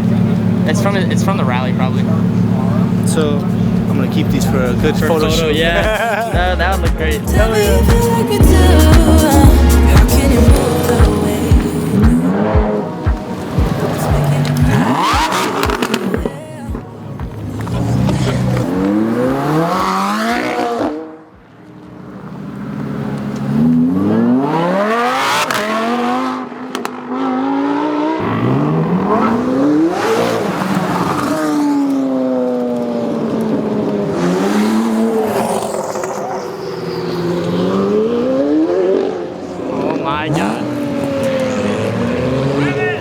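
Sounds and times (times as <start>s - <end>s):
sports car engines revving: 0.0s - 43.0s.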